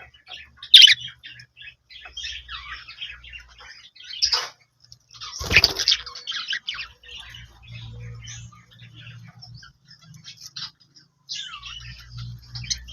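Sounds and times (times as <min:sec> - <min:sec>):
budgerigars chattering: 0:00.0 - 0:12.9.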